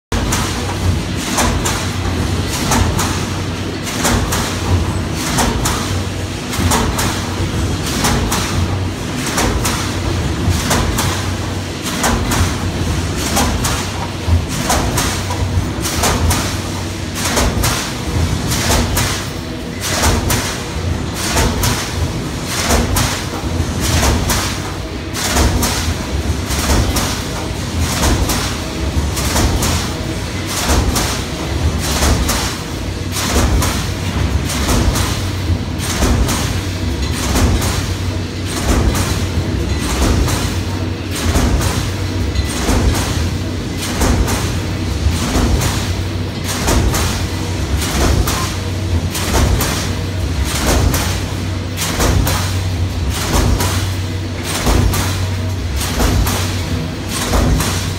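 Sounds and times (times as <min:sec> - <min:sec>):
low machine hum: 0:00.1 - 0:57.9.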